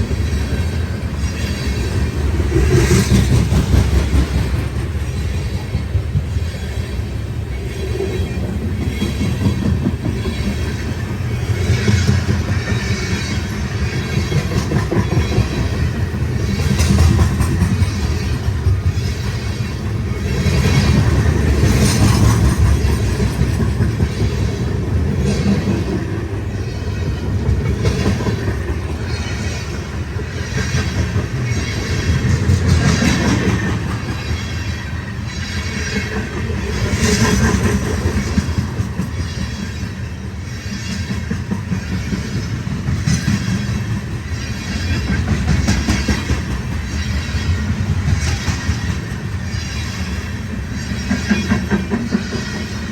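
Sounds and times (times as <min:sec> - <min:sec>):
freight train rumbling past: 0:00.0 - 0:52.9
wheels clacking over rail joints: 0:08.3 - 0:52.9.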